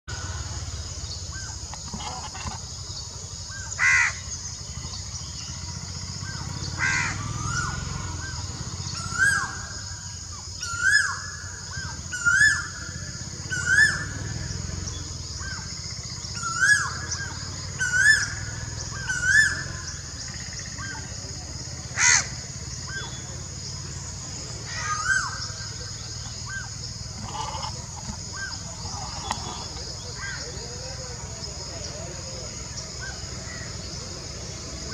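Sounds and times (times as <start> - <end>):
harsh bird calls: 0.1 - 34.9.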